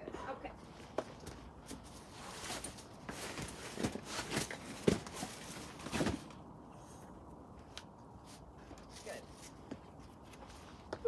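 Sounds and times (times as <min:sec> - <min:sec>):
scuffs and rustles: 0:00.6 - 0:11.0.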